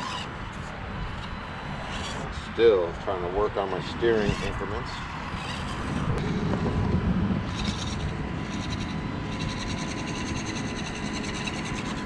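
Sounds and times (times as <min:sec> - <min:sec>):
small electric motor whirring: 0:00.0 - 0:02.9, 0:03.6 - 0:12.0
steady low rumble: 0:00.0 - 0:12.0.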